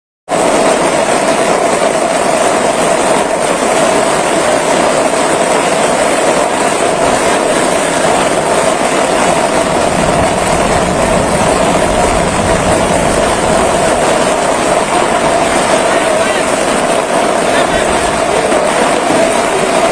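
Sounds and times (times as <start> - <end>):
floodwater rushing: 0.3 - 19.9.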